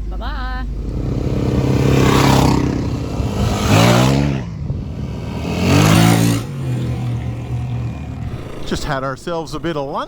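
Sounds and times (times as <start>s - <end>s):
trail motorbike engines revving: 0.1s - 10.0s.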